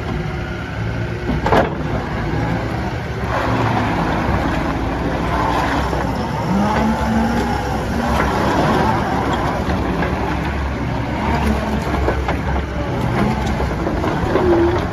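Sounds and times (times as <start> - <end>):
skid steer diesel engine running: 0.0 - 14.9.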